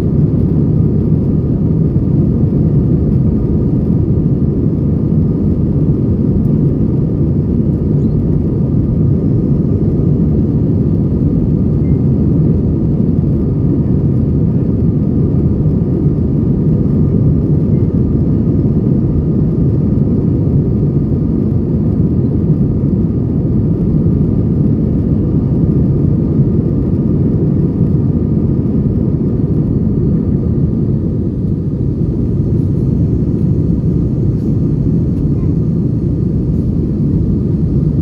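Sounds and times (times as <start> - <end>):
faint steady whine: 0.0 - 38.0
jet engines rumbling: 0.0 - 38.0
rushing airflow in cabin: 0.0 - 38.0.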